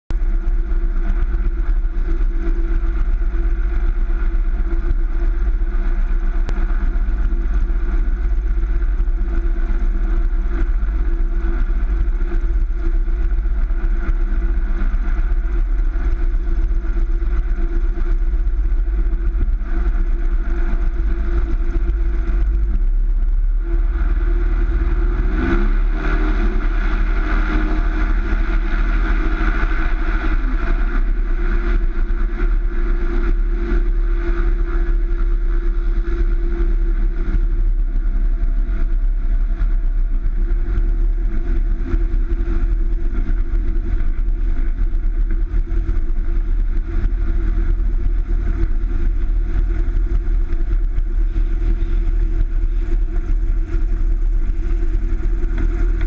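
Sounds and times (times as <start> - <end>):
propeller plane engine rumbling: 0.1 - 56.0.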